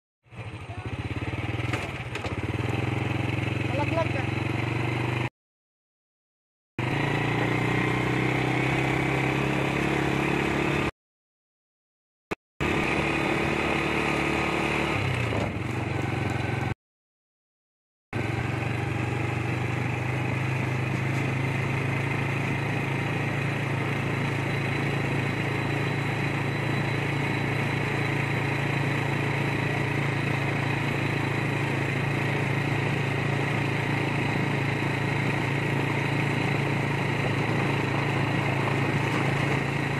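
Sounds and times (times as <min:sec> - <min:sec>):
motorcycle engine running: 0:00.3 - 0:05.3, 0:06.8 - 0:10.9, 0:12.6 - 0:16.8, 0:18.2 - 0:39.9.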